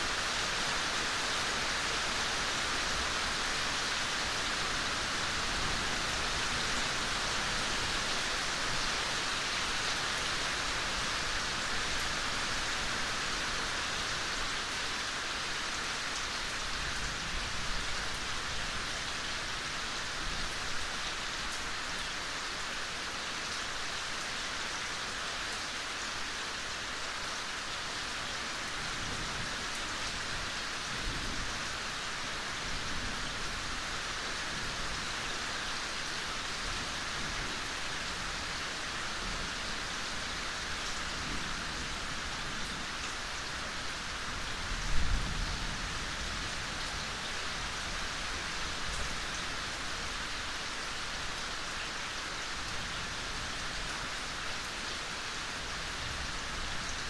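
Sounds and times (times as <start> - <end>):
soft steady rain hiss: 0.0 - 57.0.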